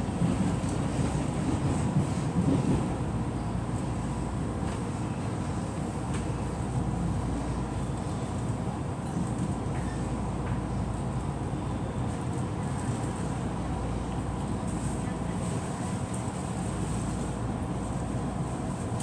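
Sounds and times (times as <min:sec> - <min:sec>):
train interior low rumble: 0:00.0 - 0:19.0.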